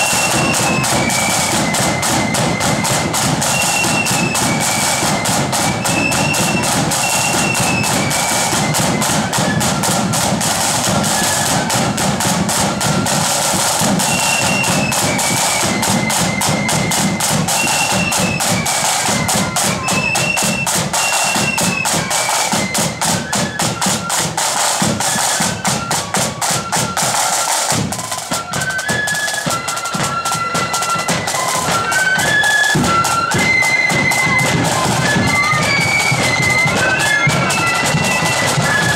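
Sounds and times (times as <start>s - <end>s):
high flute melody: 0.0s - 38.9s
rapid side drumming: 0.0s - 38.9s.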